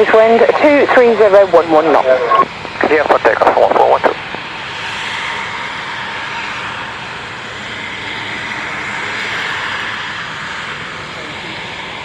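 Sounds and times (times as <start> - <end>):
aircraft engine at high power: 0.0 - 12.0.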